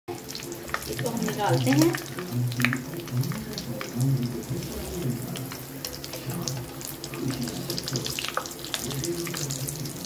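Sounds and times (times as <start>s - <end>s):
food sizzling in hot oil: 0.1s - 10.0s.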